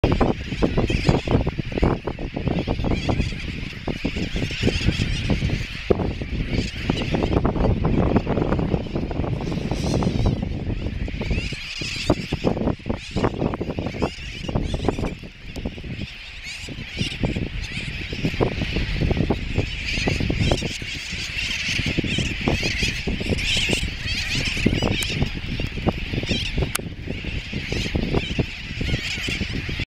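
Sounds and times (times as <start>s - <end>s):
seabird colony calling: 0.0s - 29.8s
wind buffeting microphone: 0.0s - 29.9s.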